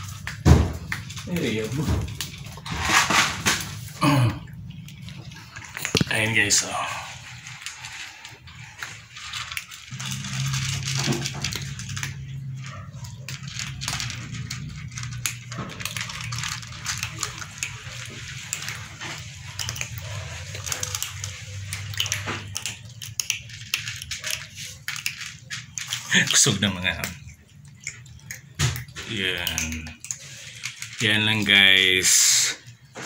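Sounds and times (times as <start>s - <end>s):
cats crunching dry kibble: 0.0s - 33.0s.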